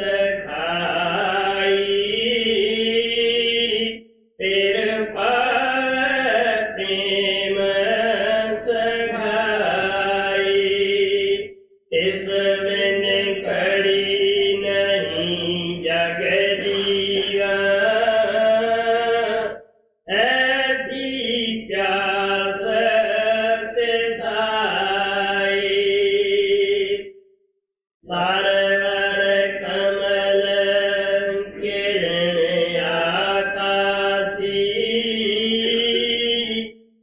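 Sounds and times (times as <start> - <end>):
man chanting: 0.0 - 27.0, 28.0 - 36.7.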